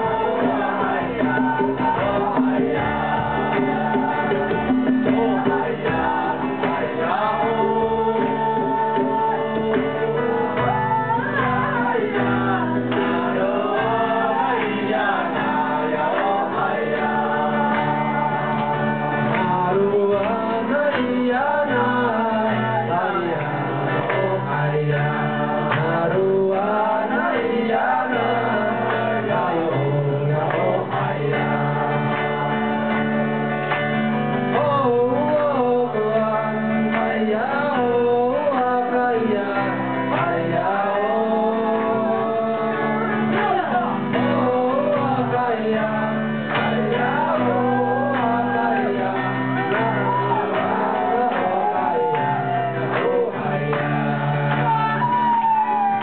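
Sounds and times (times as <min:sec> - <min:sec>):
guitar accompaniment: 0:00.0 - 0:56.0
men singing together: 0:00.0 - 0:56.0.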